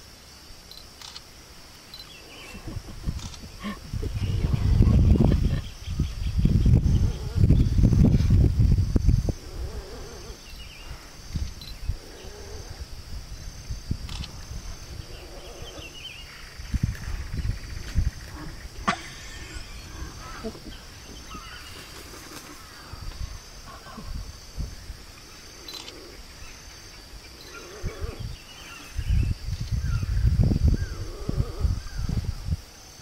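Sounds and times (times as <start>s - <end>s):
pulsing high insect buzz: 0.0s - 33.0s
low microphone rumbles: 2.2s - 32.7s.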